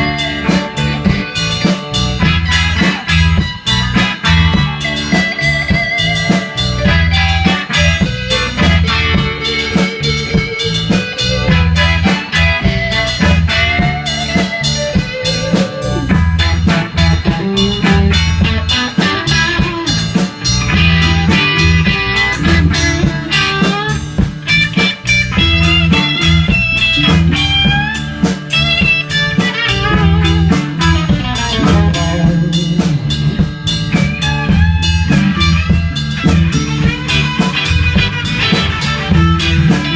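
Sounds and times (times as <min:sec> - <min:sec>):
bass guitar: 0:00.0 - 0:39.9
drum kit steady beat: 0:00.0 - 0:39.9
electric guitar lead lines: 0:00.0 - 0:39.9.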